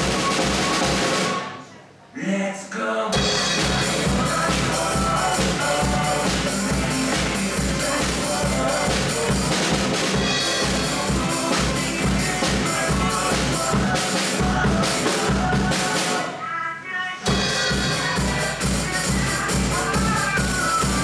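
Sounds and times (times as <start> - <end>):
drum kit pop beat: 0.0 - 1.6, 3.1 - 16.4, 17.2 - 21.0
pitched backing music: 0.0 - 1.7, 3.1 - 21.0.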